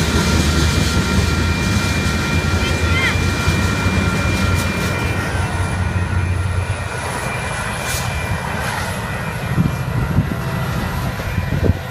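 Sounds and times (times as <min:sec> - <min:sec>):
diesel train rumbling past: 0:00.0 - 0:11.9.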